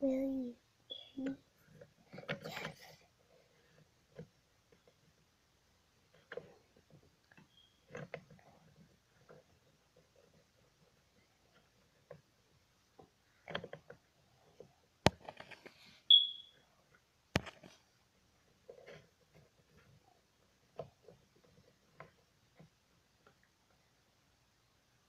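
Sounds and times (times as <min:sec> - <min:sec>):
plastic toys knocking and rubbing: 0:01.2 - 0:05.3, 0:05.9 - 0:15.9, 0:16.8 - 0:24.0.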